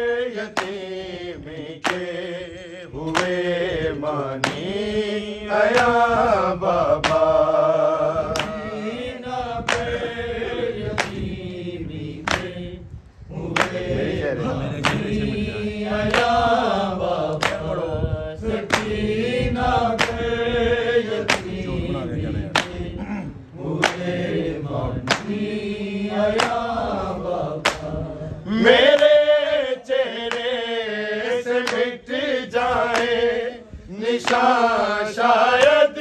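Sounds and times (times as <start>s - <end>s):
men chanting a lament: 0.0s - 36.0s.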